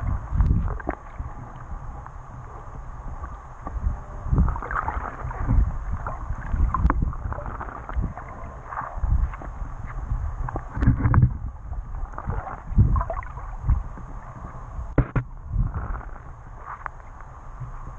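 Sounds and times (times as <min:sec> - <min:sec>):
muffled underwater sloshing: 0:00.0 - 0:17.9.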